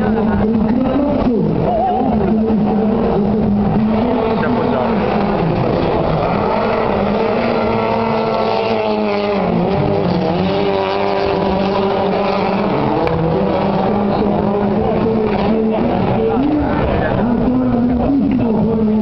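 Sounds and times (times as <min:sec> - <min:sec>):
rally car engines revving: 0:00.0 - 0:19.0.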